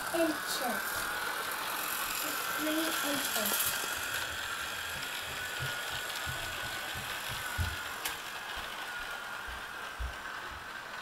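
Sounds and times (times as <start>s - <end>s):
model train motor whining: 0.0s - 11.0s.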